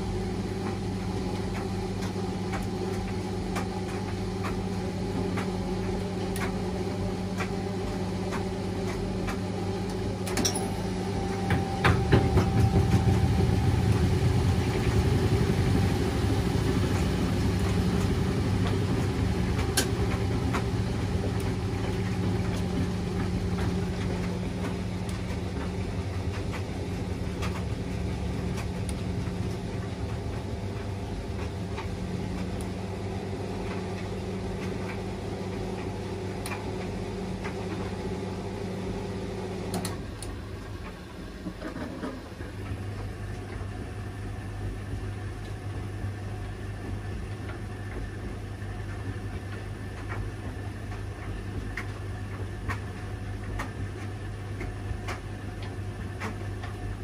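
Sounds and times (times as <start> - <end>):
washing machine drum rumbling: 0.0 - 57.0
washing machine motor hum: 0.0 - 57.0.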